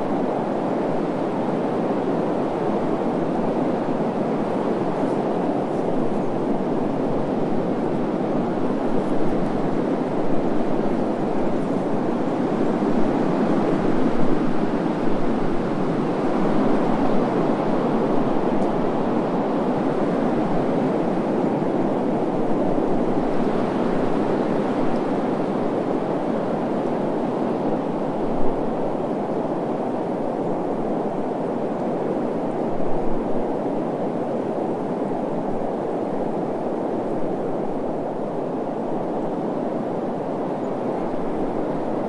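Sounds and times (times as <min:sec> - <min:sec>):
wind blowing: 0:00.0 - 0:42.0.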